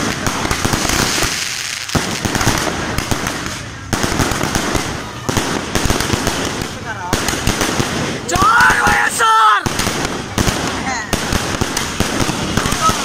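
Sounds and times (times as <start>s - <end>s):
fireworks hissing and crackling: 0.0s - 13.0s.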